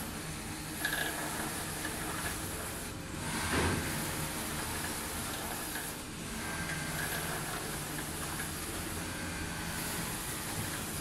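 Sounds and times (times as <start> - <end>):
machine motors humming: 0.0 - 11.0.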